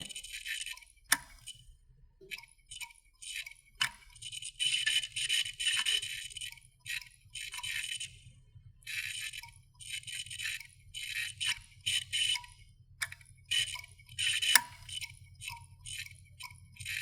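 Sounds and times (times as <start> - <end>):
hard drive clicking and chattering: 0.0 - 17.0.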